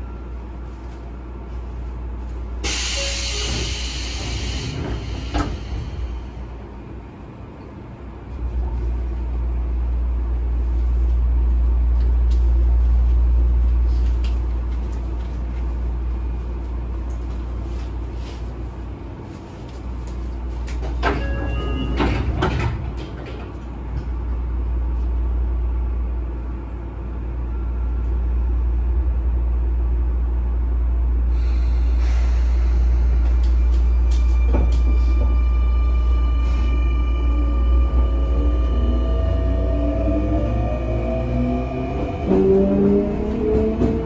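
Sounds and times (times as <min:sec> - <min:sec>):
train car low hum: 0:00.0 - 0:44.0.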